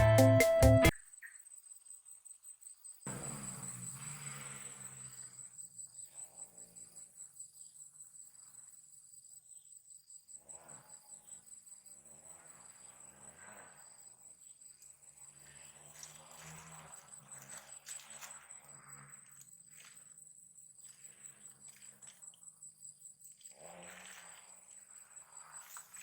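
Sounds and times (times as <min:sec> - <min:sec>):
insects trilling: 0:01.1 - 0:26.0.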